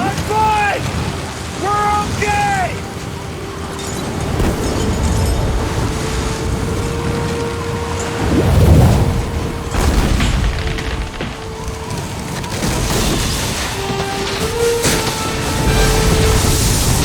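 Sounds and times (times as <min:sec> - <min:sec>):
avalanche rumble with booms: 0:00.0 - 0:17.0
music holding a long note: 0:00.9 - 0:17.0.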